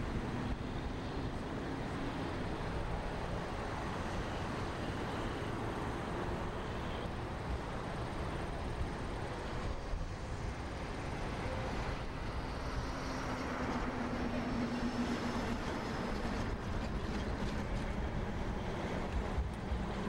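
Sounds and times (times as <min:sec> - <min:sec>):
road traffic rushing by: 0:00.0 - 0:20.0.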